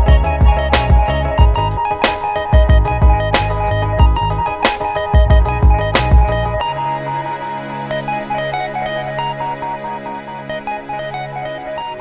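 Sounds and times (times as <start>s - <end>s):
electronic music with synth melody: 0.0s - 12.0s.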